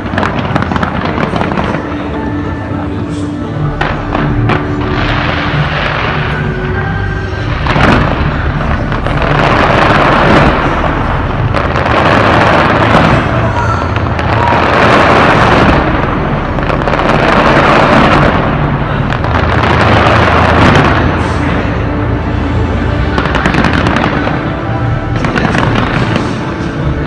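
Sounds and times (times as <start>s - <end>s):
fireworks bangs and crackling: 0.0s - 27.0s.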